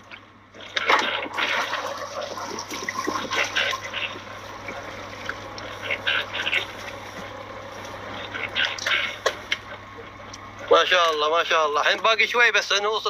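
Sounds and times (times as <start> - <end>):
seawater splashing and trickling: 0.0 - 10.6
steady low hum: 0.0 - 13.0.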